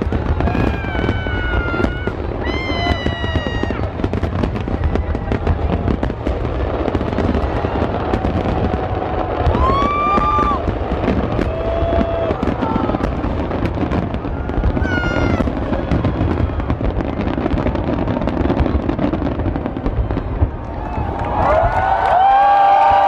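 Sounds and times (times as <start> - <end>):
crowd cheering: 0.0 - 23.0
fireworks crackling and popping: 0.0 - 23.0
low rumble of firework bursts: 0.0 - 23.0.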